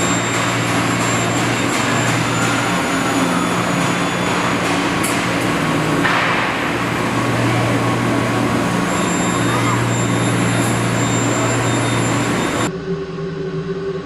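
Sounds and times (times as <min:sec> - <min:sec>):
industrial machinery hum: 0:00.0 - 0:14.0.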